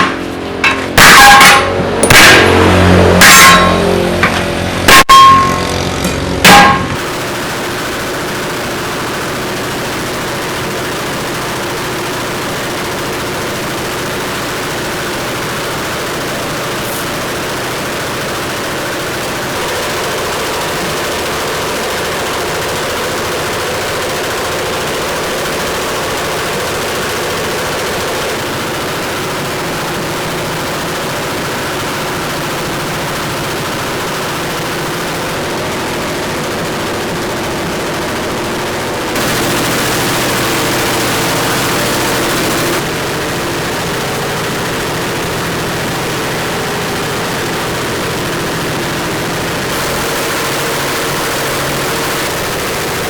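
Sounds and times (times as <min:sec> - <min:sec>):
loud mechanical rattling: 0:00.0 - 0:53.0.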